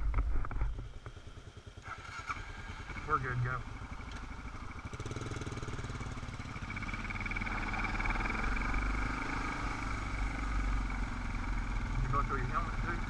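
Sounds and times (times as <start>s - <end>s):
dirt motorcycle engine: 0.0s - 13.0s.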